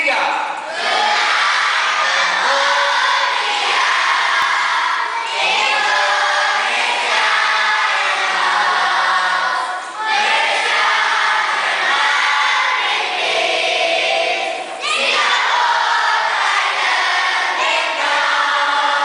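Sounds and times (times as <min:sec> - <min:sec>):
children singing in unison: 0:00.7 - 0:19.0.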